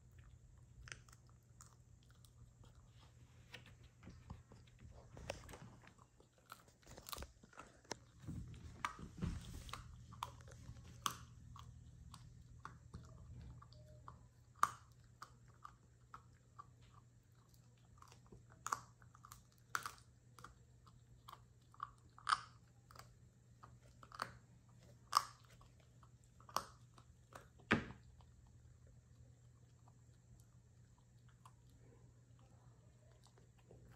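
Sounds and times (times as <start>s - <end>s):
puppy chewing and crunching: 0.0s - 33.9s.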